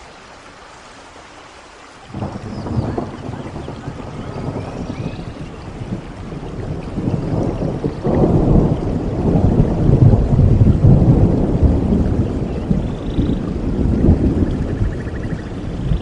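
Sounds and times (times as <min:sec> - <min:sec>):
steady rain: 0:00.0 - 0:16.0
rolling thunder: 0:02.1 - 0:16.0.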